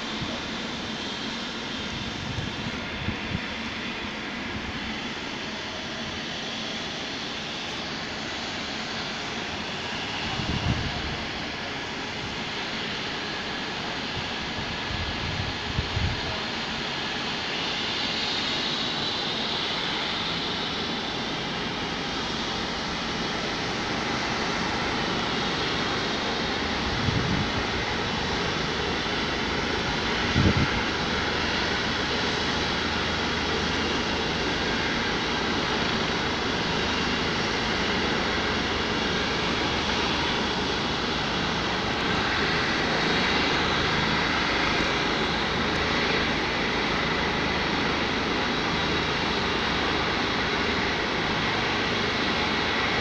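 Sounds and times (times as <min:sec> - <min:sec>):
helicopter turbine and rotor noise: 0:00.0 - 0:53.0.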